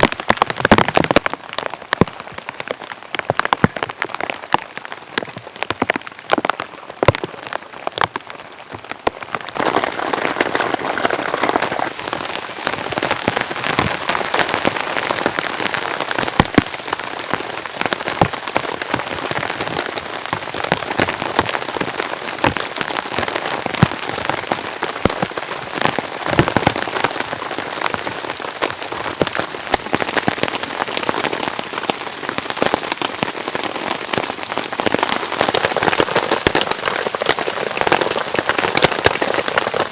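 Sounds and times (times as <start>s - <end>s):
heavy rain falling: 0.0s - 39.9s
raindrops striking a surface: 0.0s - 39.9s.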